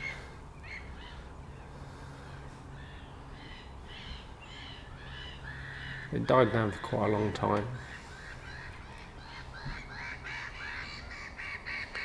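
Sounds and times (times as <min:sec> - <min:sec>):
distant gulls calling: 0:00.0 - 0:12.0.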